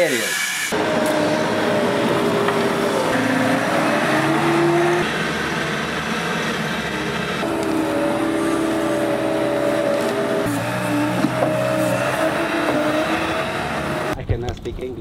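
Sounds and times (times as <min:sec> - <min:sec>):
loader diesel engines under load: 0:00.0 - 0:14.3.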